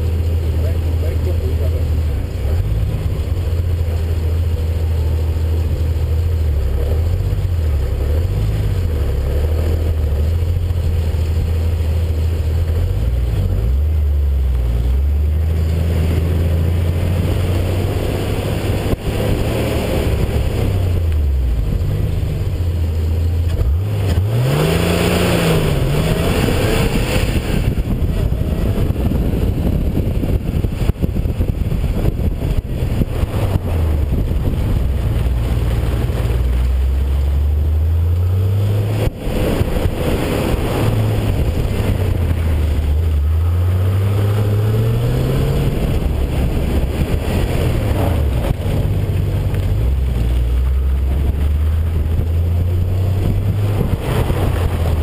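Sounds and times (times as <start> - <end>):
sports car engine revving: 0.0 - 55.0.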